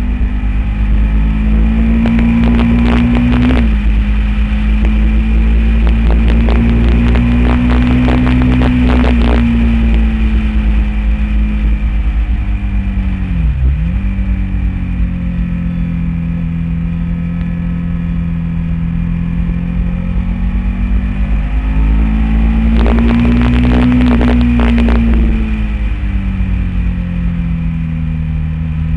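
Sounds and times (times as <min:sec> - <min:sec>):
motorcycle engine under way: 0:00.0 - 0:28.9.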